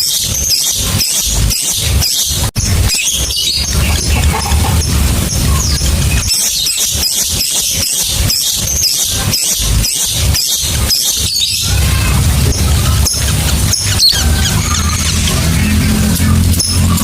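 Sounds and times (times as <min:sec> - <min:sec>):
lovebird chirping and squawking: 0:00.0 - 0:17.0
steady low hum: 0:02.5 - 0:17.0.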